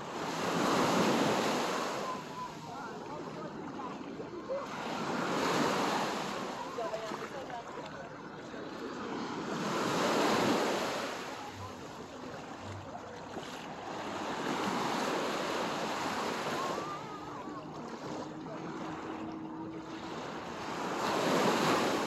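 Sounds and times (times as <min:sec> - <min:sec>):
small waves breaking on sand: 0:00.0 - 0:22.0.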